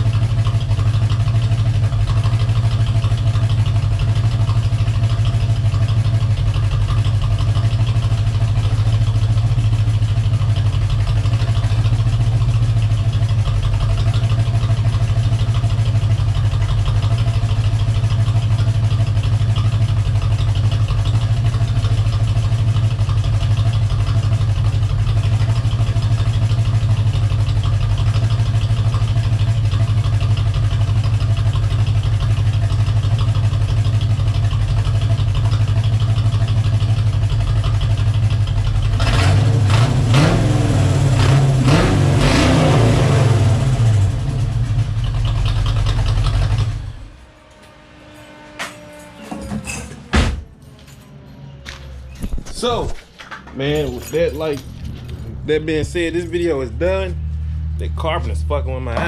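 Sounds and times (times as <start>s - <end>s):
engine tapping: 0.0s - 47.1s, 51.6s - 59.0s
car engine idling: 0.0s - 49.1s, 50.1s - 59.0s.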